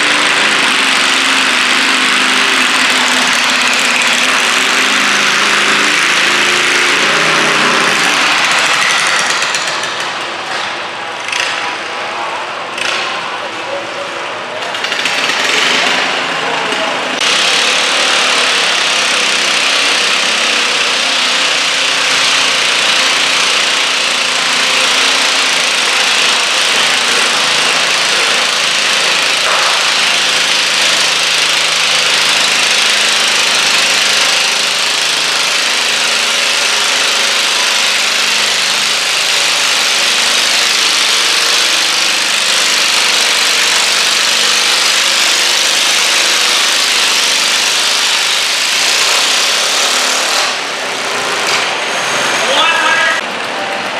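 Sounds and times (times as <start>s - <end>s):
garden tractor engine at high throttle: 0.0s - 53.9s.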